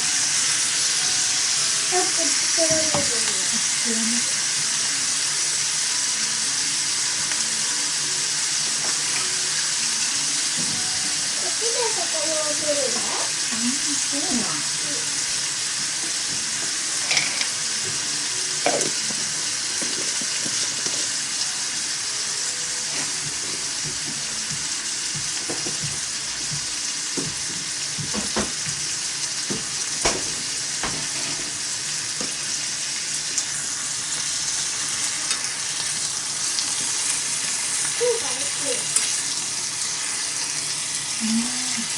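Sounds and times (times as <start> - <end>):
food sizzling in a pot: 0.0 - 41.9.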